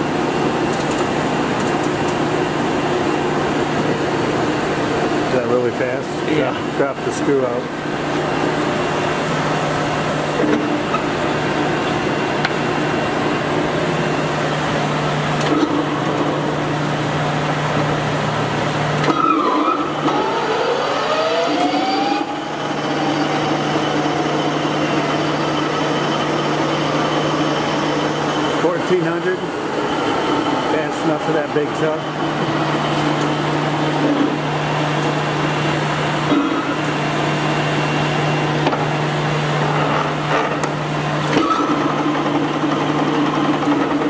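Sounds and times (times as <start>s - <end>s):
lathe motor humming: 0.0s - 44.0s
lathe spindle whine rising: 0.0s - 44.0s.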